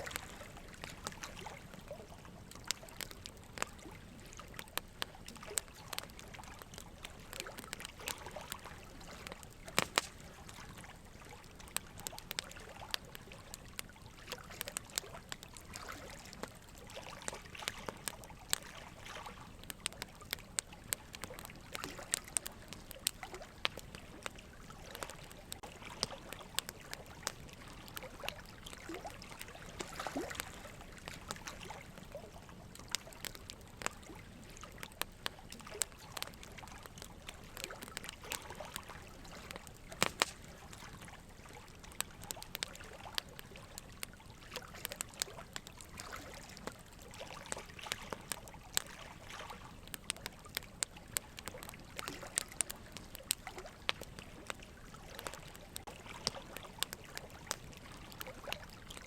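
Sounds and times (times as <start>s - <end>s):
small irregular water-like clicks: 0.0s - 59.0s.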